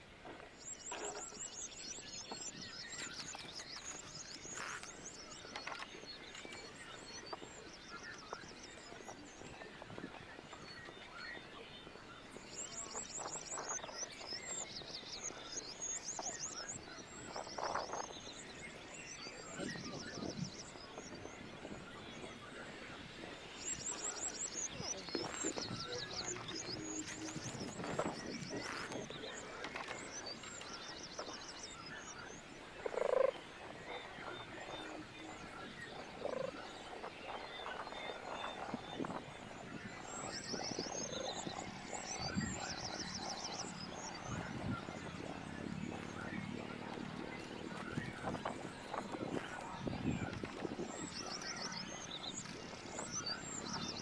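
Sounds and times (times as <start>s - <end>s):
small birds trilling and chirping: 0.0s - 54.0s.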